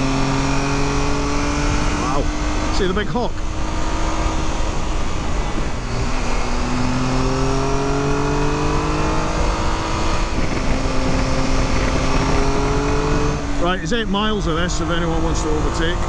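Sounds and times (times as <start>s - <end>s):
heavy wind rush: 0.0s - 16.0s
motorcycle engine pulling: 0.0s - 16.0s.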